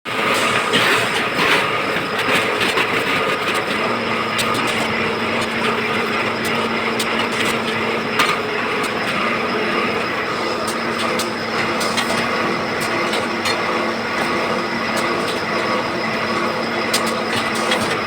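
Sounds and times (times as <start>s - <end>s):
machine running with low hum: 0.2s - 18.0s.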